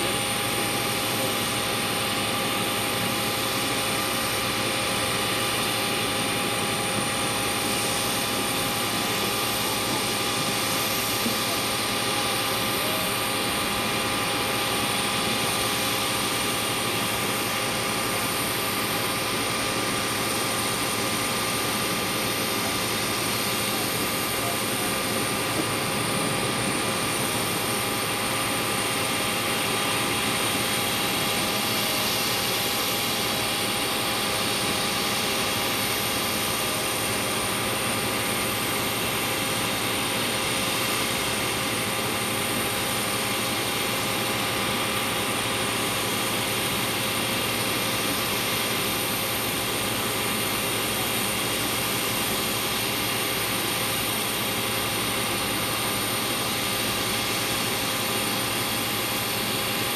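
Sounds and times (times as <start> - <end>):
auxiliary power unit turbine whine: 0.0 - 59.9.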